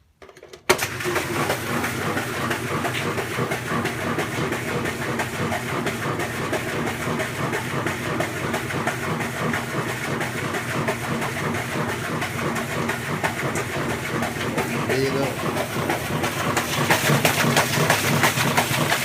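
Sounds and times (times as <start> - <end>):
washing machine rattling: 0.7 - 19.0.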